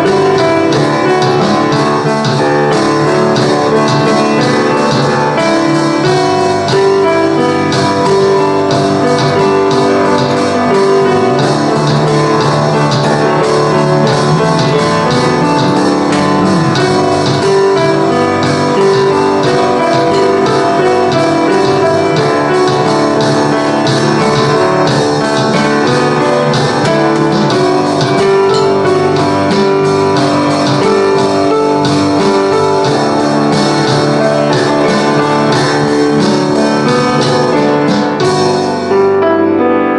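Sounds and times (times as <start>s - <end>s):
regular drum beat: 0.0s - 38.8s
instrumental rock band playing: 0.0s - 39.2s
sustained piano chords: 0.0s - 39.9s.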